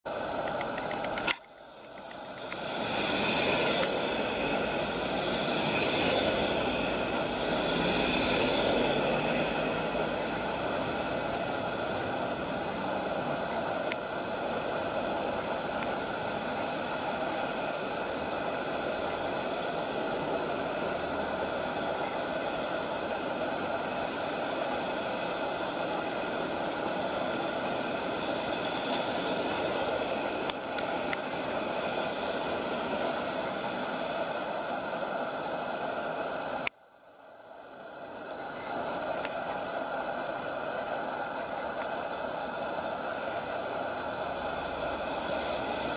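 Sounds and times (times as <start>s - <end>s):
road traffic noise: 0.0s - 36.8s, 37.5s - 45.9s.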